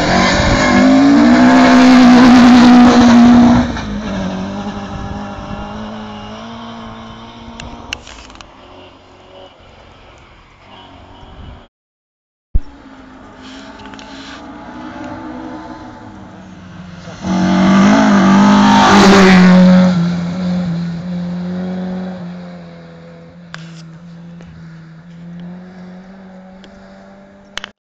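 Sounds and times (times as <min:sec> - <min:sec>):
rally car passing at full throttle: 0:00.0 - 0:11.4, 0:12.8 - 0:27.6.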